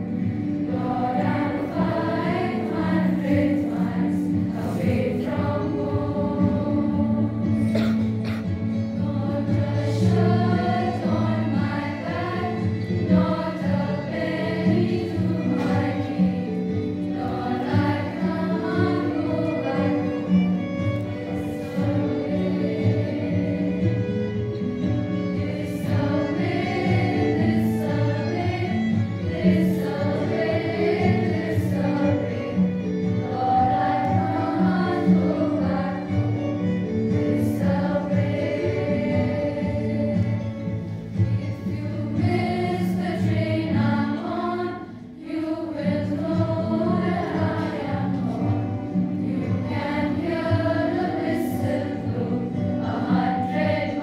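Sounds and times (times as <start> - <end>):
girls choir singing: 0.0 - 54.0.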